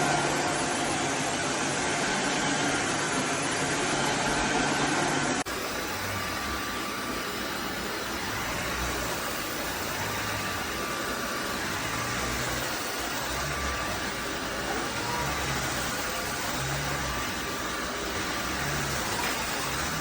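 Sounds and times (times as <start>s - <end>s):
vacuum mop running: 0.0s - 20.0s.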